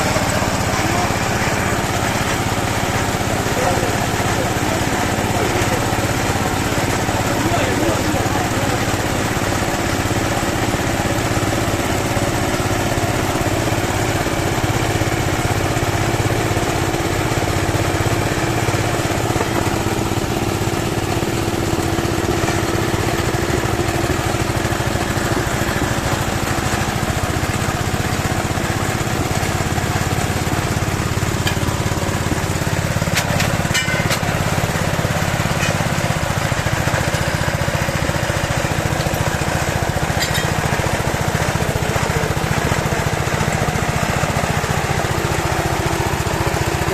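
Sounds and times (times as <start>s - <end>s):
small petrol engine running: 0.0s - 46.9s.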